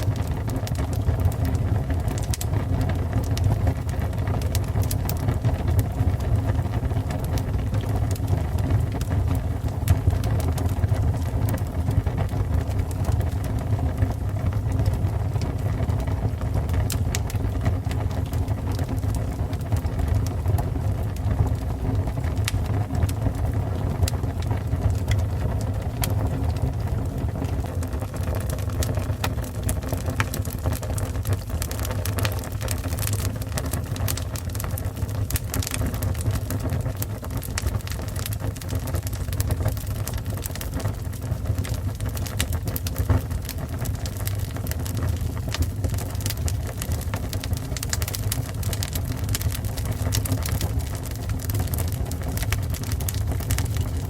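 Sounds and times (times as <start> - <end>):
fire crackling and popping: 0.0 - 54.0
low fire rumble: 0.0 - 54.0.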